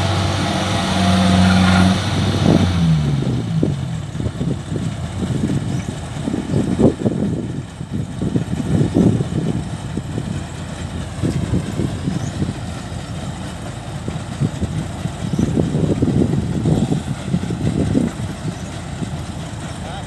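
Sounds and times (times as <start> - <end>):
diesel engines rumbling: 0.0 - 20.0.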